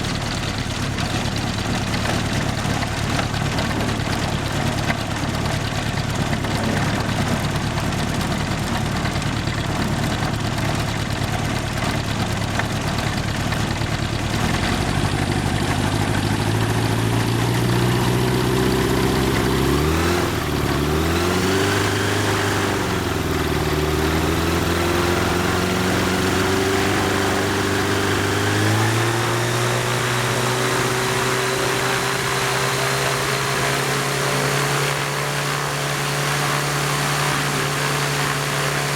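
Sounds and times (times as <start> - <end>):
aircraft engine turning a propeller: 0.0 - 38.9
propeller rushing noise: 0.0 - 38.9.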